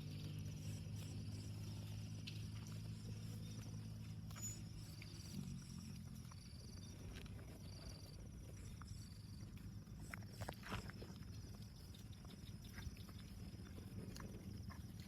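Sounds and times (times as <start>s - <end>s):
crickets chirping: 0.0s - 15.0s
faint low hum: 0.0s - 15.0s.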